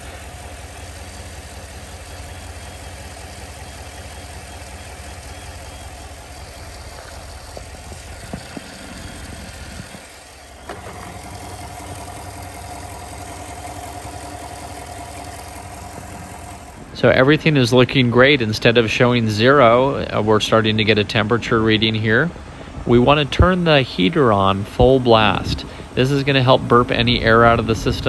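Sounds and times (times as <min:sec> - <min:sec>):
engine idling: 0:00.0 - 0:28.0
steady high whine: 0:00.0 - 0:28.0.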